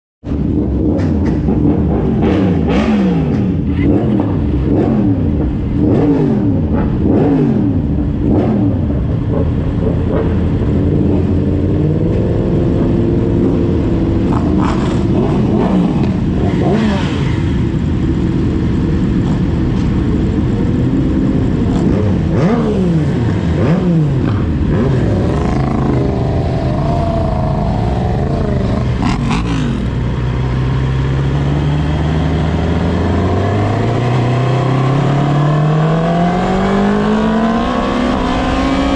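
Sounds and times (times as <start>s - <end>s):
motorcycle engines accelerating: 0.3s - 38.9s.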